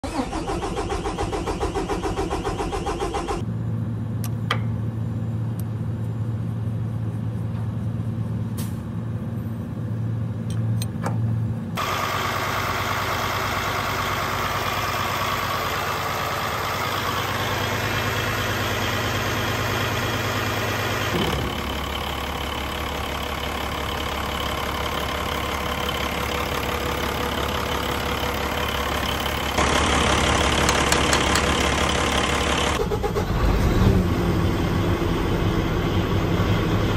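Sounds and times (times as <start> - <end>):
diesel engine cranking: 0.0 - 3.5, 10.3 - 36.9
diesel engine idling: 0.0 - 36.9.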